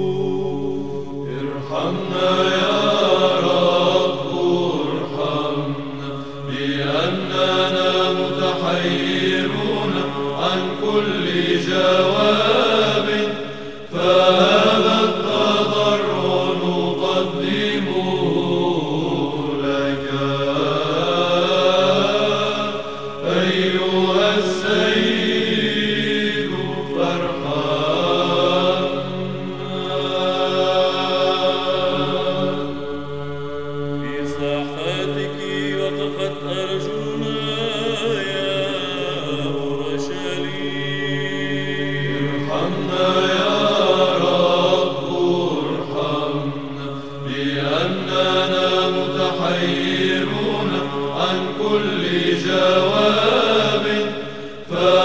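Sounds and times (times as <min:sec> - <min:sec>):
low drone: 0:00.0 - 0:55.0
slow vocal chant: 0:00.0 - 0:55.0.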